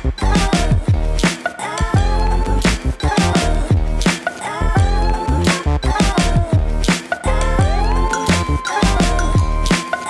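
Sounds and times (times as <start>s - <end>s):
hip-hop beat with deep bass: 0.0s - 10.0s.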